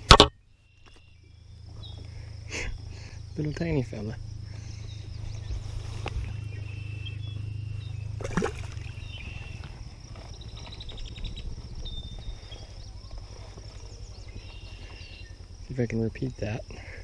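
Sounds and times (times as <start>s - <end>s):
low hum: 0.0s - 16.8s
high insect buzz: 0.0s - 17.0s.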